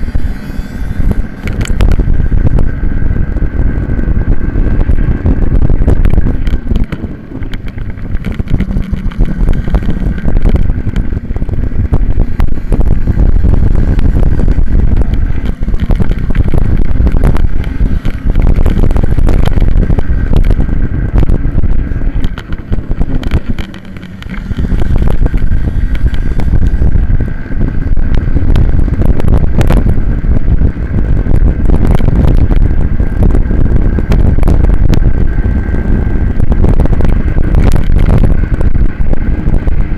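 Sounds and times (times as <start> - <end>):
minibike engine running hard: 0.0 - 39.9
wind buffeting microphone: 0.0 - 39.9.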